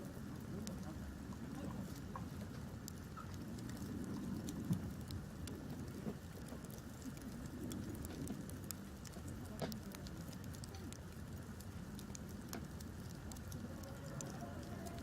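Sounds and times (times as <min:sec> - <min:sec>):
campfire crackling: 0:00.0 - 0:15.0
low fire rumble: 0:00.0 - 0:15.0.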